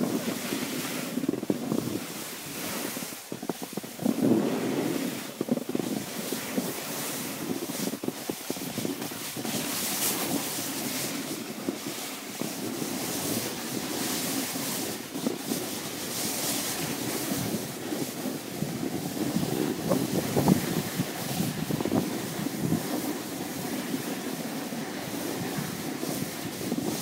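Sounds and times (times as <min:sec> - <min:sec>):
skis scraping over snow: 0:00.0 - 0:27.0
wind rushing over microphone: 0:00.0 - 0:27.0.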